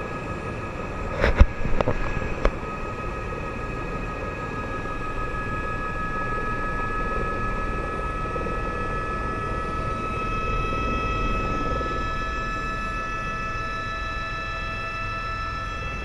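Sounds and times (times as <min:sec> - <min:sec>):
helicopter low rumble: 0:00.0 - 0:16.0
helicopter turbine whine: 0:00.0 - 0:16.0.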